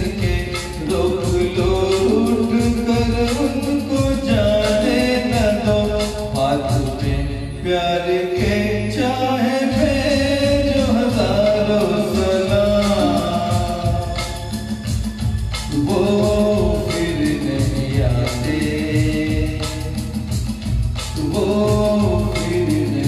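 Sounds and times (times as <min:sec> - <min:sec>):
karaoke backing track: 0:00.0 - 0:23.0
man singing into a microphone: 0:00.0 - 0:23.0.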